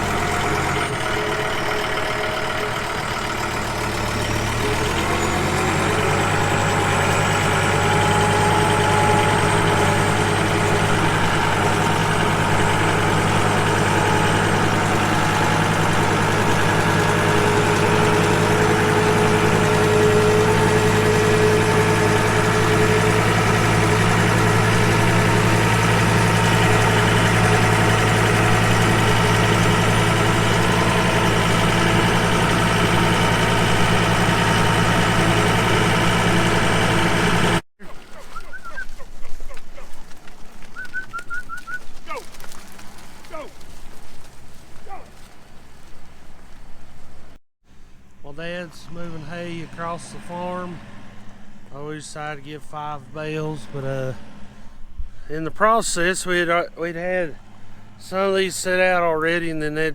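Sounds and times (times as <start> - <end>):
engine humming steadily: 0.0 - 59.9.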